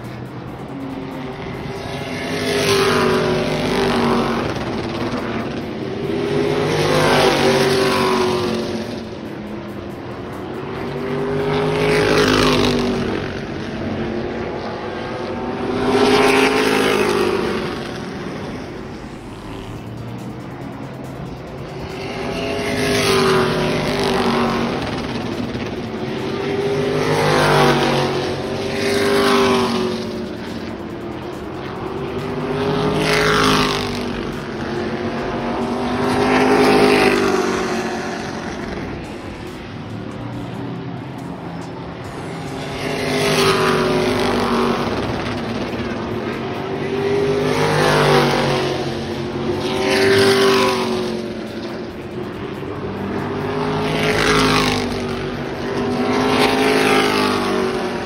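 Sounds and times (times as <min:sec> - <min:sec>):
race car engines passing: 0:00.0 - 0:58.0.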